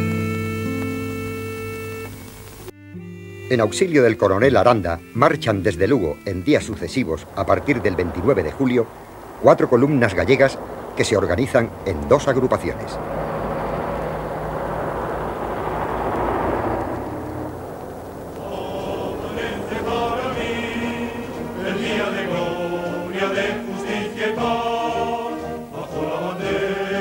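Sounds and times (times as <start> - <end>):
noisy rumble: 0.0 - 27.0
choir singing with held notes: 2.8 - 27.0.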